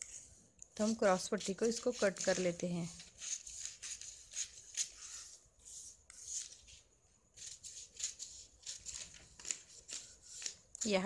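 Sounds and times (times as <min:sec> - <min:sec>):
paper rustling: 0:00.8 - 0:06.8, 0:07.4 - 0:11.0.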